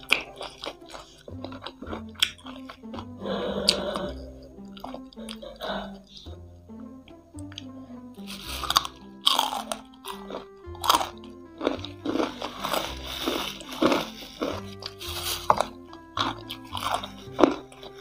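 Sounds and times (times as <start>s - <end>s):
background music with bass: 0.0s - 18.0s
crunchy chewing: 0.0s - 18.0s.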